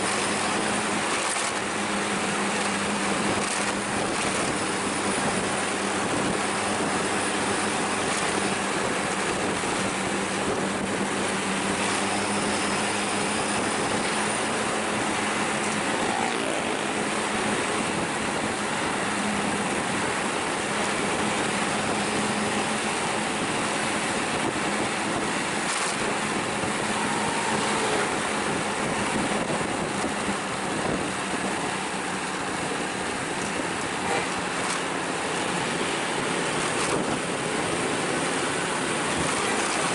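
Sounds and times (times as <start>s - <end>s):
low engine hum: 0.0s - 39.9s
road and wind noise: 0.0s - 39.9s.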